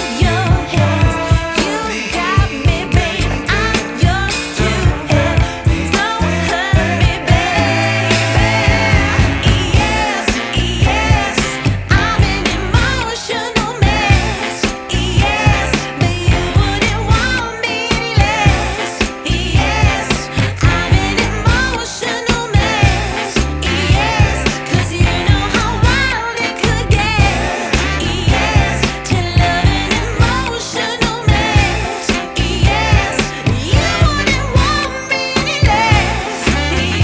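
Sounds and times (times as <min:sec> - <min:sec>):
bass line: 0:00.0 - 0:37.0
singing over a beat: 0:00.0 - 0:37.0.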